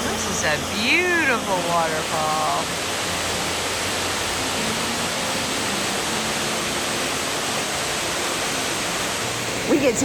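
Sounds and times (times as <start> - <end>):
waterfall pouring: 0.0 - 10.0.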